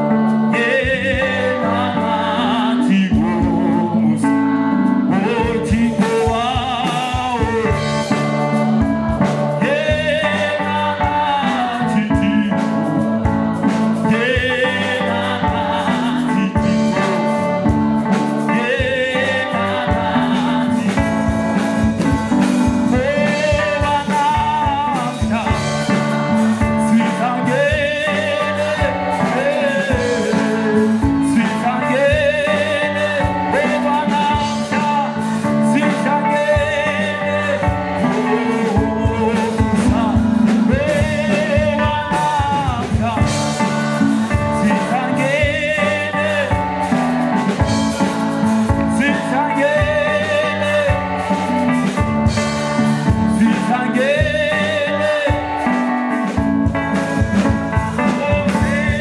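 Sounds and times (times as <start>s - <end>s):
amplified band with steady beat: 0.0s - 59.0s
gospel group singing: 0.0s - 59.0s.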